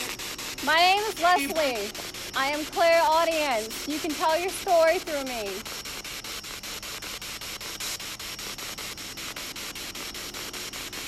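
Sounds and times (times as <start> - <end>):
pulsing radio static hiss: 0.0 - 11.0.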